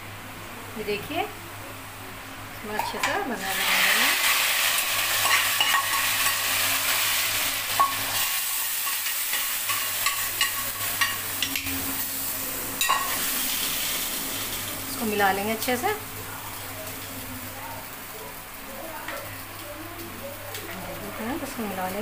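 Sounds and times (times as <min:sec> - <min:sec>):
hot oil sizzling: 0:02.5 - 0:22.0.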